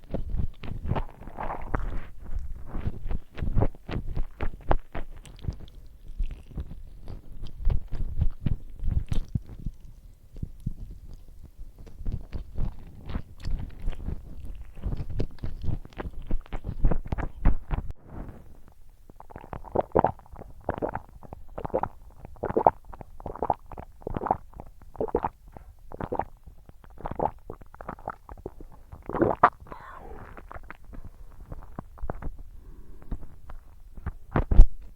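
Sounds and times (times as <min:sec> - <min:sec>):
mouth sounds of eating: 0:00.0 - 0:17.8, 0:19.0 - 0:34.7.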